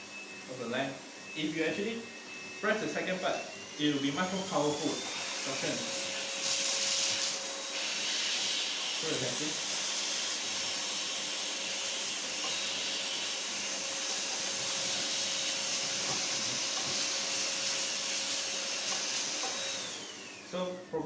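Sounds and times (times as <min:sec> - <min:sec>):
stick vacuum running: 0:00.0 - 0:21.0.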